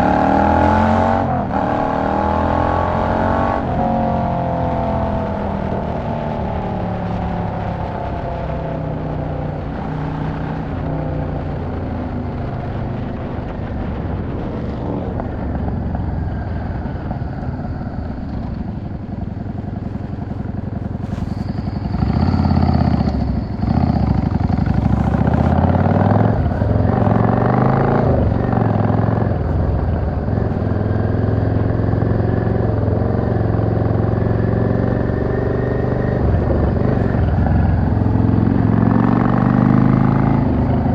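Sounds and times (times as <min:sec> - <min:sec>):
motorcycle engine running: 0:02.9 - 0:40.9.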